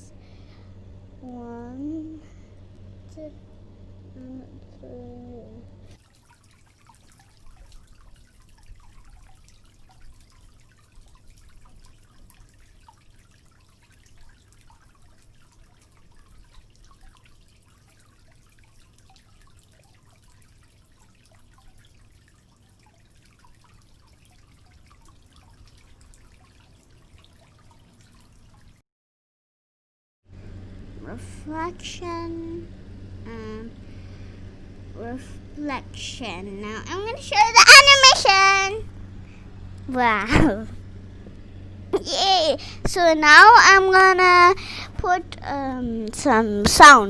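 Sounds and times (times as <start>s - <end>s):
low steady hum: 0.0s - 28.8s, 30.3s - 47.0s.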